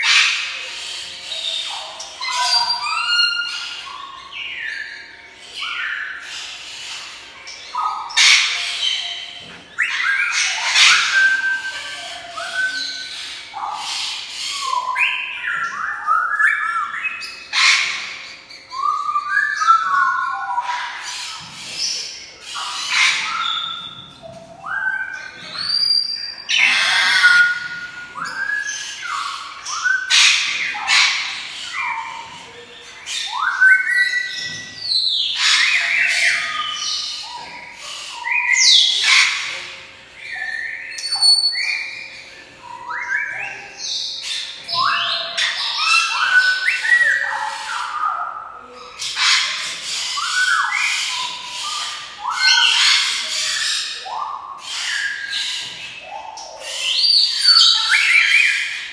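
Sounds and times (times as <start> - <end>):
parrot squawking: 0.0 - 4.7, 5.5 - 16.5, 17.2 - 58.9.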